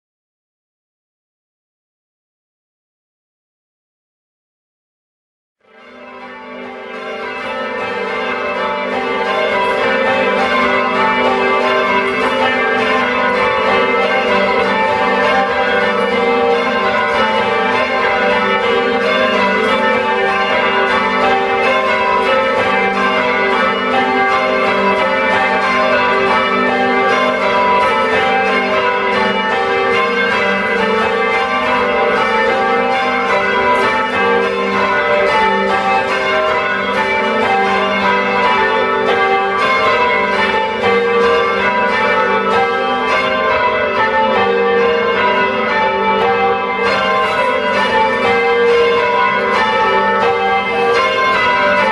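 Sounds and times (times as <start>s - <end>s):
church bells change-ringing: 5.6s - 51.9s.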